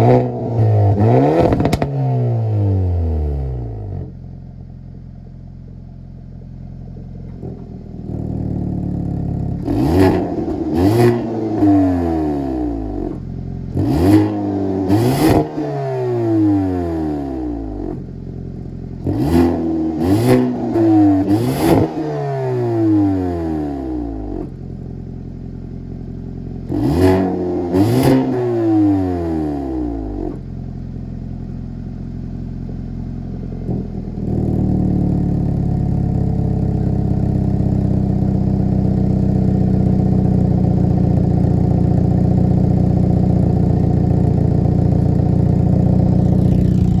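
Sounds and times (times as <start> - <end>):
car engine idling: 0.0 - 15.7, 16.3 - 22.1, 24.0 - 28.4, 29.8 - 47.0
car exhaust revving with pops: 0.0 - 47.0.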